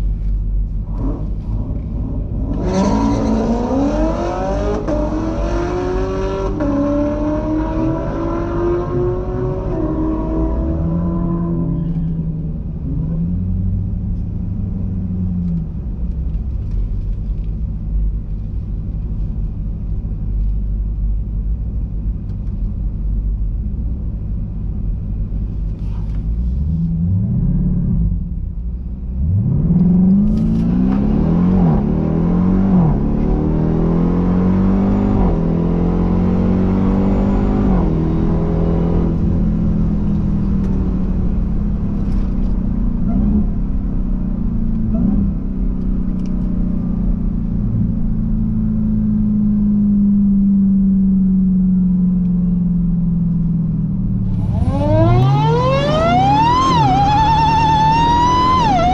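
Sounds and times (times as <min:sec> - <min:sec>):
car engine idling and revving: 0:00.0 - 0:58.9.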